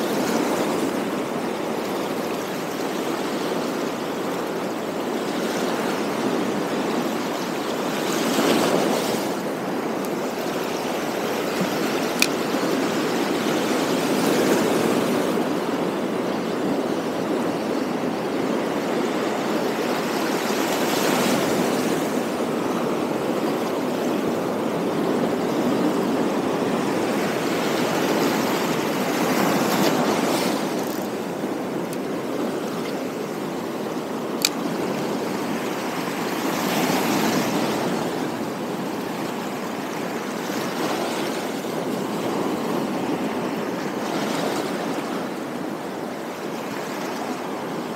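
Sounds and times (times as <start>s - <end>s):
waves washing over rocks: 0.0s - 47.9s.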